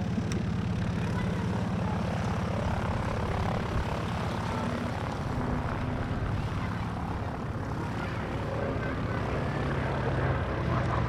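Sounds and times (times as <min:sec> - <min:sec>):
radial aircraft engine droning: 0:00.0 - 0:11.0.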